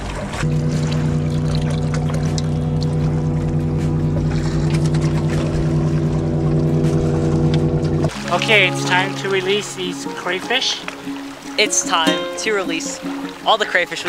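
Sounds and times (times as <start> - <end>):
engine running steadily: 0.0 - 11.3.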